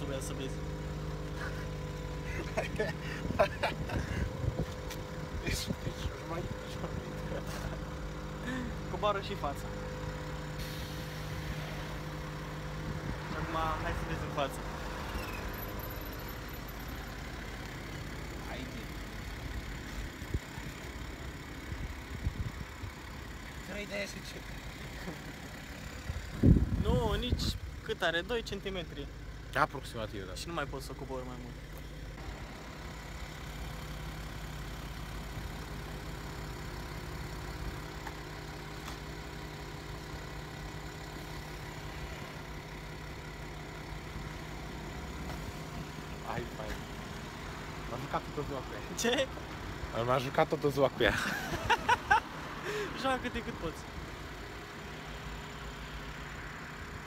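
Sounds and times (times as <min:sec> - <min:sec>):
car idling: 0:00.0 - 0:57.0.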